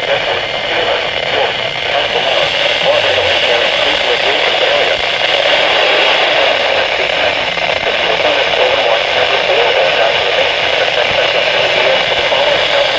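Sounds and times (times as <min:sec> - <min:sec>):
radio static hiss: 0:00.0 - 0:12.9.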